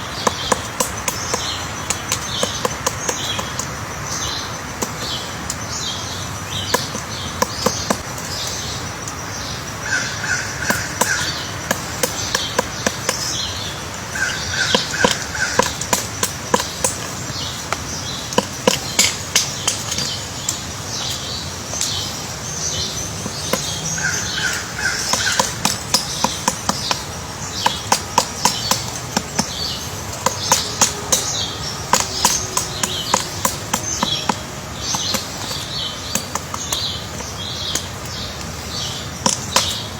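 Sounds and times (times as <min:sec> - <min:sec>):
woodpecker tapping wood: 0:00.0 - 0:39.9.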